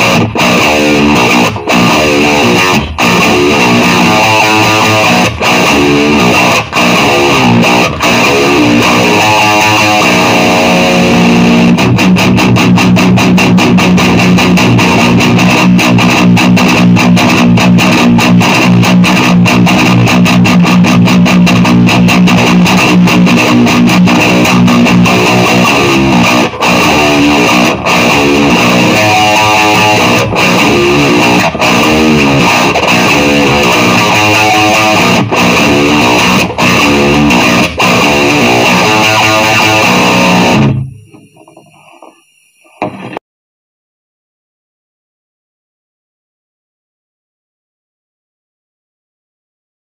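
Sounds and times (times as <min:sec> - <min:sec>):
distorted electric guitar: 0:00.0 - 0:43.2.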